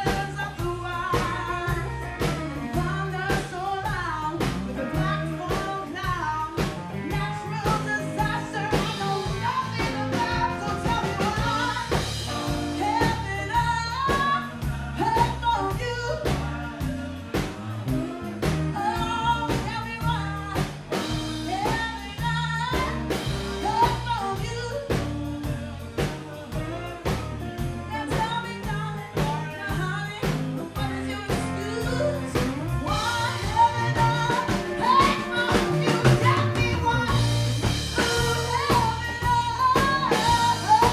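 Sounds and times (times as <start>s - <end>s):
acoustic and electric guitars: 0.0s - 40.9s
bass guitar: 0.0s - 40.9s
drum kit beat: 0.0s - 40.9s
woman singing lead: 0.0s - 40.9s.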